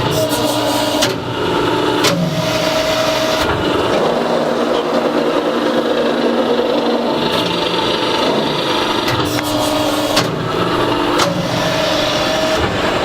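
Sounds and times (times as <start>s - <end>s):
hydraulic press brake humming: 0.0s - 13.0s.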